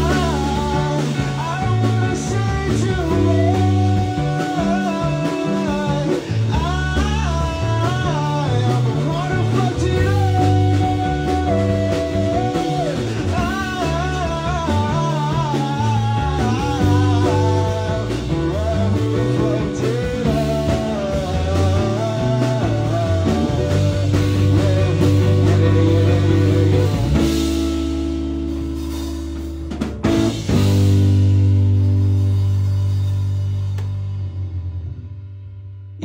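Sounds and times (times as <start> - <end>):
live rock band playing: 0.0 - 35.1.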